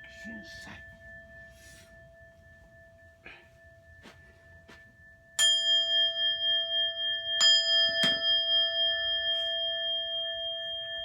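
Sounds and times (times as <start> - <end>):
bowl bell ringing: 0.0 - 11.0.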